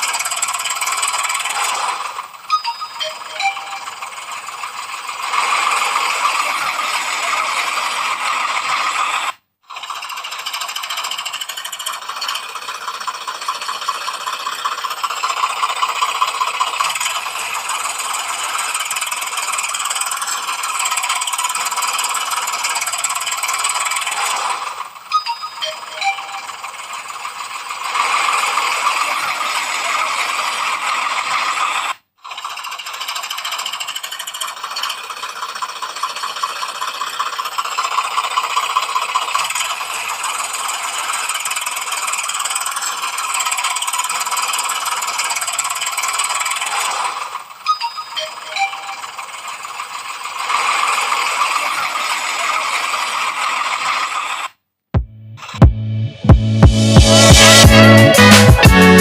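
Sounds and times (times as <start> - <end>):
toy motor and gears whirring: 0.0 - 54.6.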